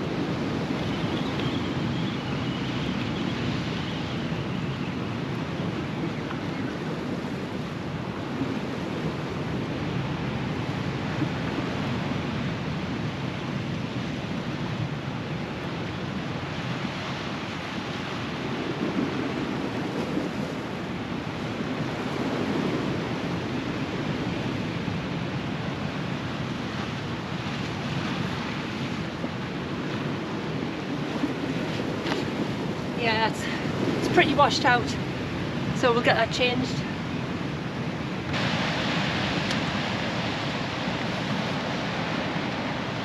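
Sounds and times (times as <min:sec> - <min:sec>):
waves washing over rocks: 0:00.0 - 0:43.0
wind buffeting microphone: 0:00.0 - 0:43.0.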